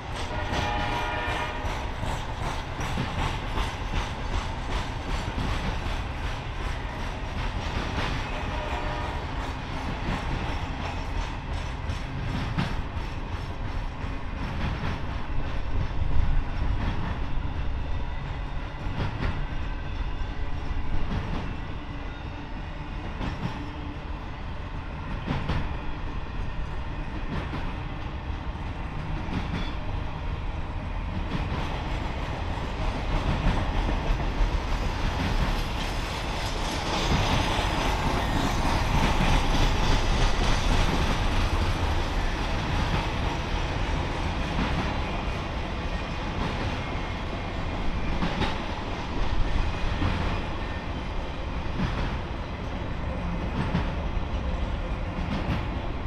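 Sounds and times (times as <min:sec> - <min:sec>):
train wheels clicking on rail joints: 0:00.0 - 0:21.8, 0:22.9 - 0:56.0
train rumble: 0:00.0 - 0:56.0.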